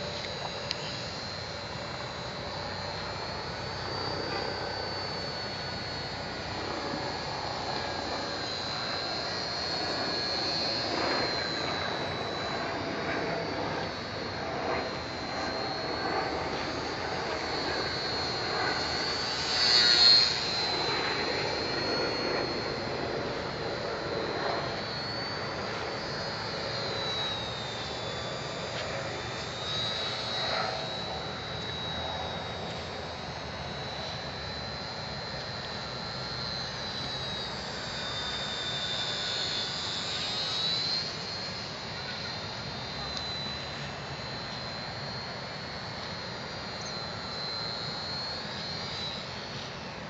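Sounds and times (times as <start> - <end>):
model plane motor whine: 0.0 - 50.0.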